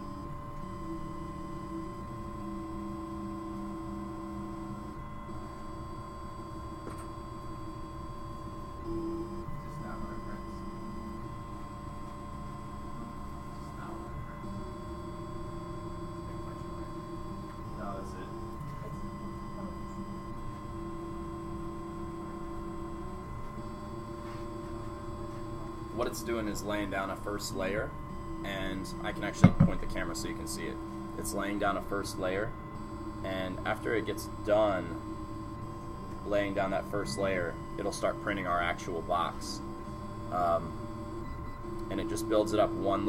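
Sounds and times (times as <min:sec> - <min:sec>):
stepper motors whining: 0:00.0 - 0:43.0.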